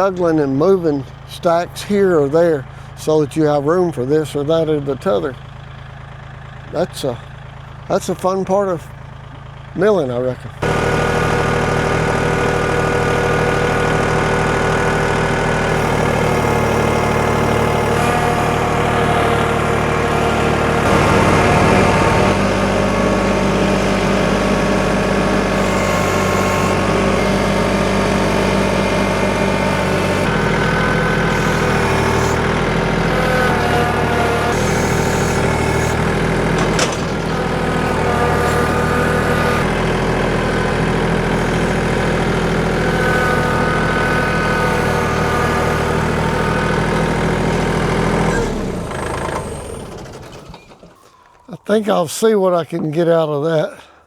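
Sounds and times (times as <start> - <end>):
engine running: 0.0 - 51.8.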